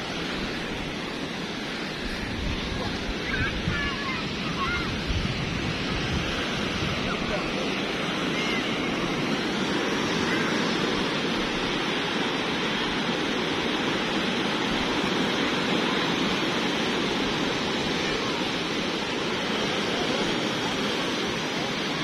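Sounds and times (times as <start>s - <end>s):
sea surf breaking on beach: 0.0s - 22.0s.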